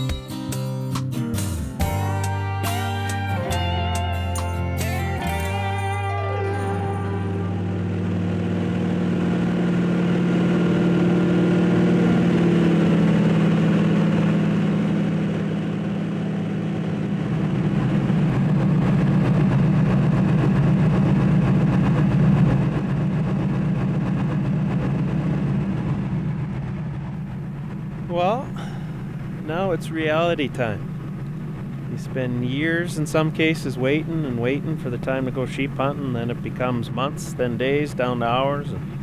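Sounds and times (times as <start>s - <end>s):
plane engine from inside cabin: 2.2s - 39.0s.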